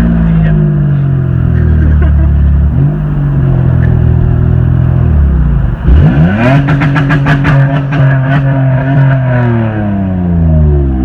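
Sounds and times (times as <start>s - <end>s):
car engine revving through open exhaust: 0.0s - 11.0s.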